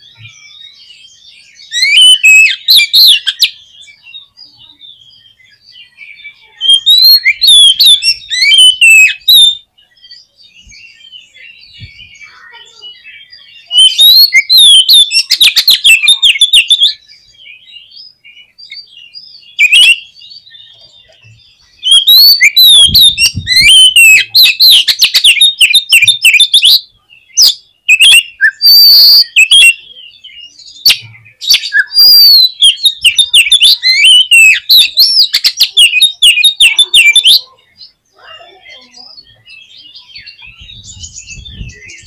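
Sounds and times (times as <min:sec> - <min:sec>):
bird singing loud varied song: 0:00.0 - 0:42.0.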